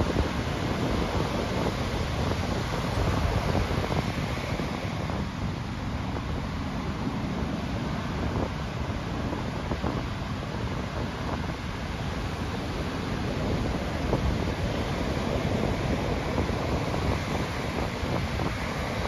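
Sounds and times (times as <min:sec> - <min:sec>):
ocean surf breaking on beach: 0:00.0 - 0:19.0
wind buffeting microphone: 0:00.0 - 0:19.0.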